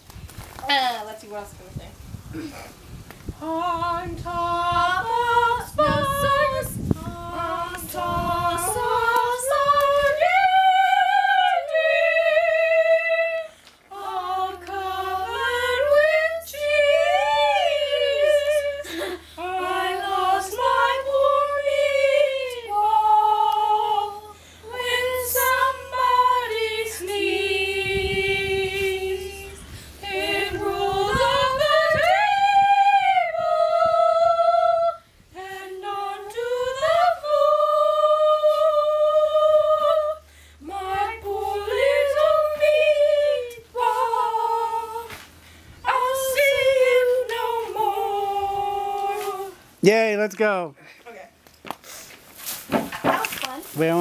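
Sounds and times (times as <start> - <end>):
children singing a cappella: 3.4 - 49.8.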